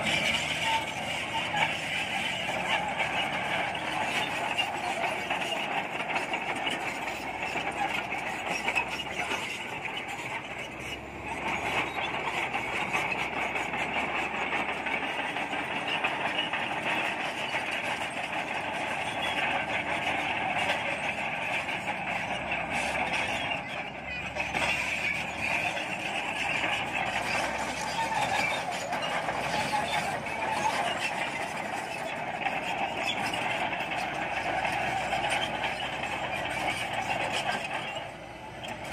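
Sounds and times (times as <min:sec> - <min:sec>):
bulldozer diesel engine under load: 0:00.0 - 0:38.9
steel tracks rattling: 0:00.0 - 0:38.9.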